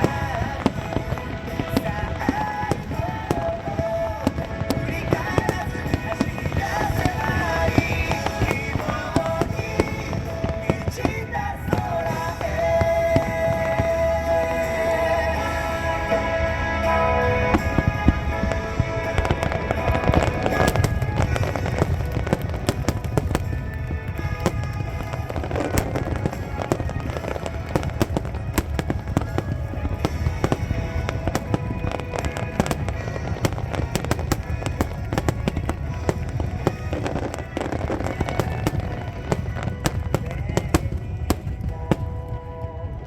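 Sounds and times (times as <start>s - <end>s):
fireworks cracking and banging: 0.0s - 43.0s
music playing: 0.0s - 43.0s.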